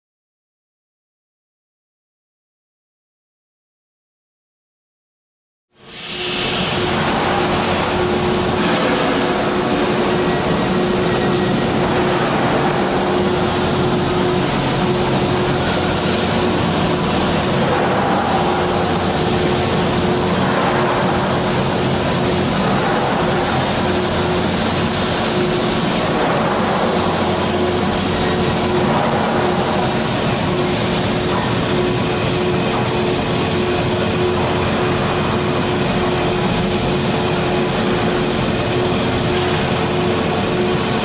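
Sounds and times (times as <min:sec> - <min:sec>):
factory machinery humming: 0:05.8 - 0:41.0.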